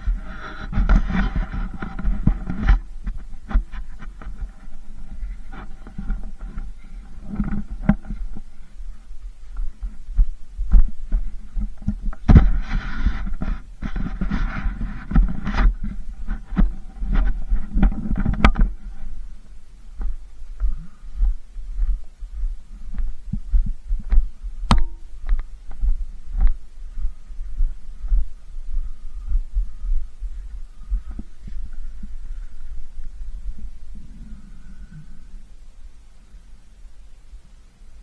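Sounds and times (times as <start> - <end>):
soft low thumps: 0.0 - 36.0.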